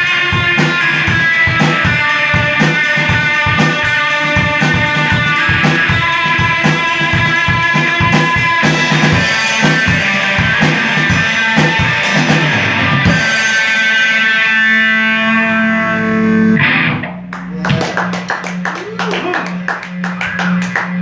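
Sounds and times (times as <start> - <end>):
drum kit: 0.0 - 21.0
electric guitar with effects: 0.0 - 21.0.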